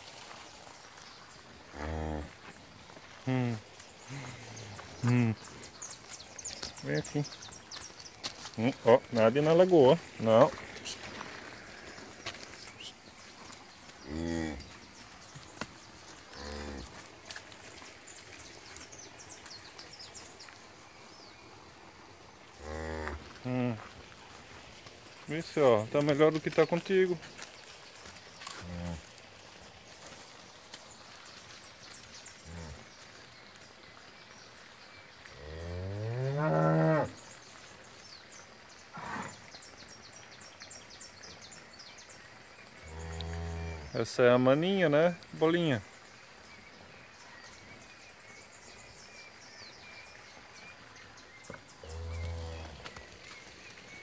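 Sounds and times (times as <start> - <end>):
small birds chirping: 0.0 - 54.0
soft outdoor hiss: 0.0 - 54.0.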